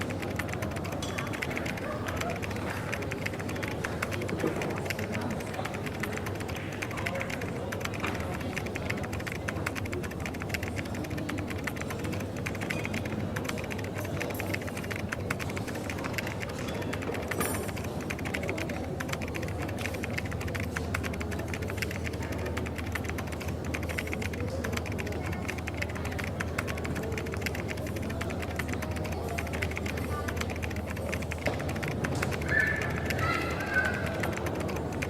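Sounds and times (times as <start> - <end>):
light clicks and clatter: 0.0 - 35.0.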